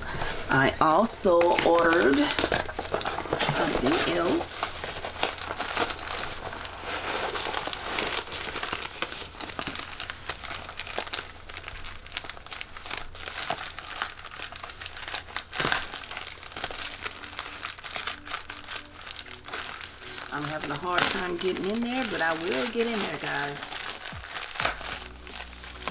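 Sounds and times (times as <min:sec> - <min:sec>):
plastic mailer bag crinkling: 0:00.0 - 0:25.9.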